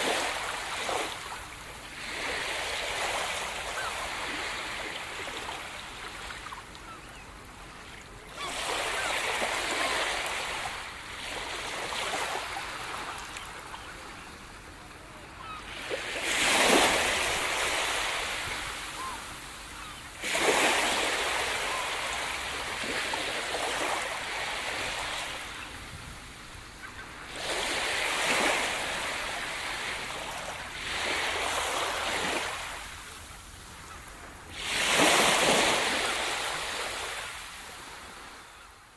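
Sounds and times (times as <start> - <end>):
sea waves breaking on beach: 0.0 - 14.4, 15.4 - 38.6.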